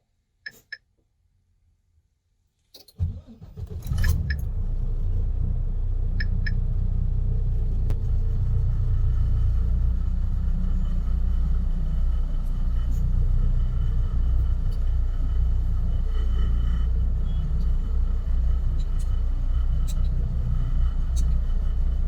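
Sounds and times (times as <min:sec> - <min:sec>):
diesel engine starting and idling: 0:03.0 - 0:22.0.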